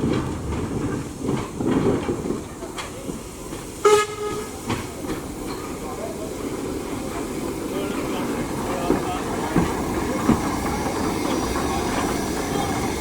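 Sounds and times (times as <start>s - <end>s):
steam train rumbling on rails: 0.0s - 13.0s.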